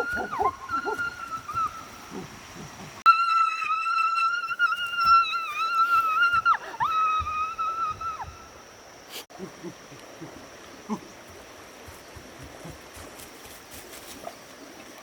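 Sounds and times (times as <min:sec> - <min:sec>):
forest ambience: 0:00.0 - 0:15.0
insects droning: 0:00.0 - 0:15.0.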